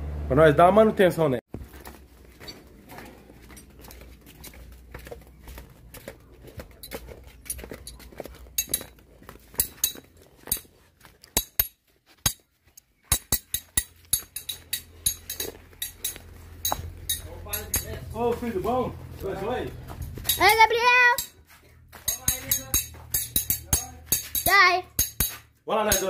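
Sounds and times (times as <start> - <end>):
footsteps in flip-flops: 1.5 - 26.0.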